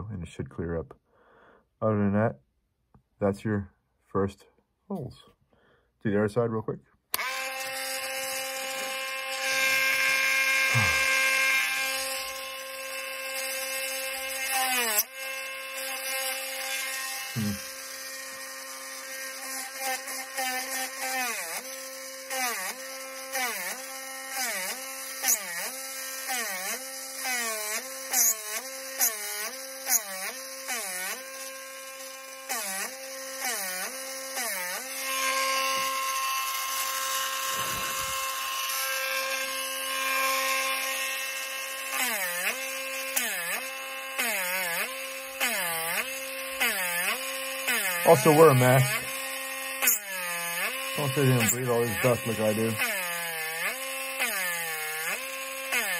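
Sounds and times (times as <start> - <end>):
bit cutting into wood: 7.1 - 55.9
rotary tool whining: 7.1 - 55.9.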